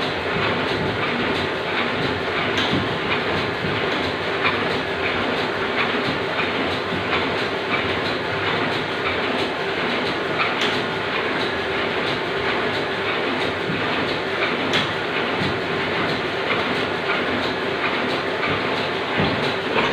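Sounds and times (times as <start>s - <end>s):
machinery rattling: 0.0s - 19.9s.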